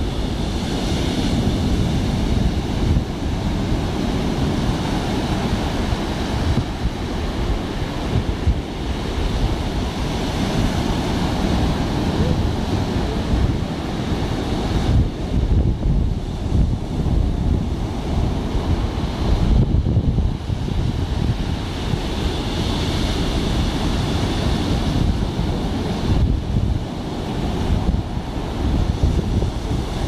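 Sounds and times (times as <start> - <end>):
ocean surf breaking on beach: 0.0 - 30.0
wind buffeting microphone: 0.0 - 30.0.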